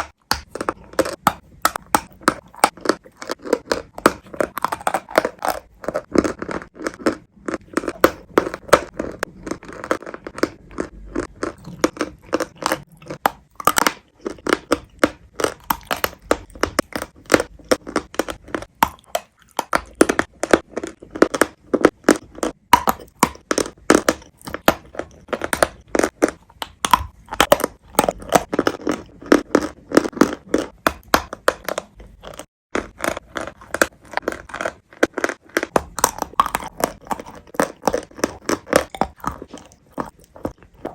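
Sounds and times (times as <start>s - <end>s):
chalk and clay crunching: 0.0s - 40.9s.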